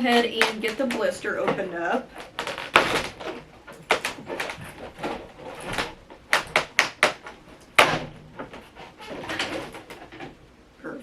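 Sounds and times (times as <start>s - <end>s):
plastic packaging crackling: 0.0s - 10.5s.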